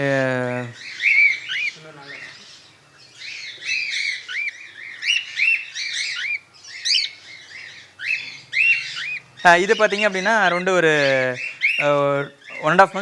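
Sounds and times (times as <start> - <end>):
cockatiels chirping: 0.7 - 13.0.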